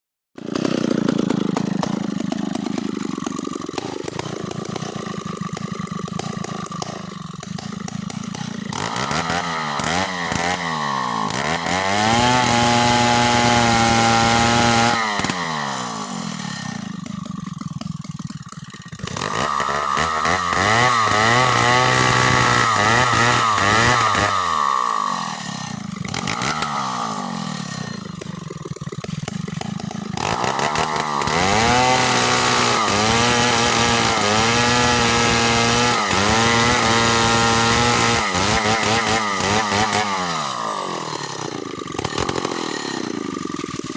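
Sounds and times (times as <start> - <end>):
chainsaw revving and idling: 0.4 - 43.9.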